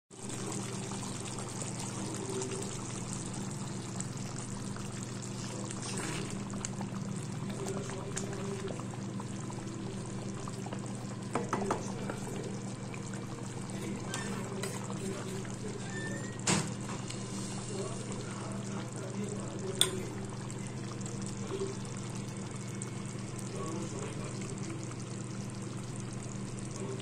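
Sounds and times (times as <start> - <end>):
gravy bubbling and spitting: 0.2 - 22.6.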